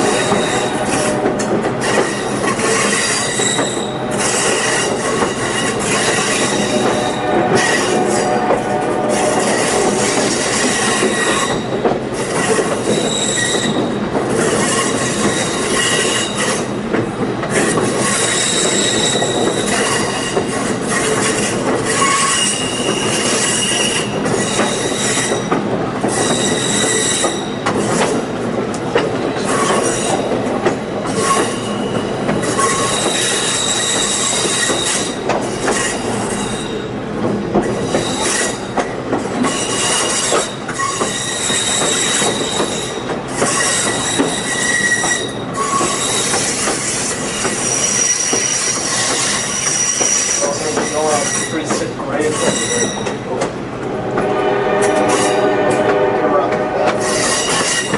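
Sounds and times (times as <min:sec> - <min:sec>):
train wheels squealing: 0:00.0 - 0:01.2, 0:01.8 - 0:08.5, 0:09.1 - 0:16.8, 0:17.5 - 0:28.2, 0:29.3 - 0:30.4, 0:31.0 - 0:37.0, 0:37.6 - 0:53.4, 0:56.8 - 0:57.9
train cars rolling on rails: 0:00.0 - 0:57.9.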